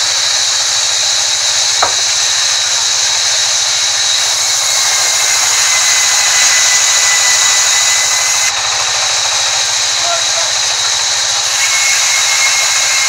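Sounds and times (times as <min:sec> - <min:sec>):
band saw cutting wood: 0:00.0 - 0:13.0.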